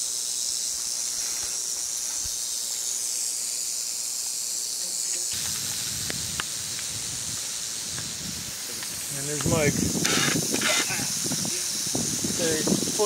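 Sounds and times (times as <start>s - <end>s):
rattlesnake rattling: 0.0s - 13.0s.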